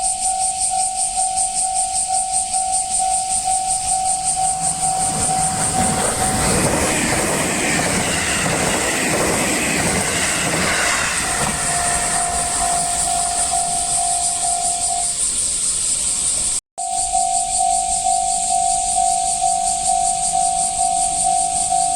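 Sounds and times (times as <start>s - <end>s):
level crossing warning bell: 0.0s - 15.4s, 16.8s - 21.9s
train passing: 2.0s - 21.9s.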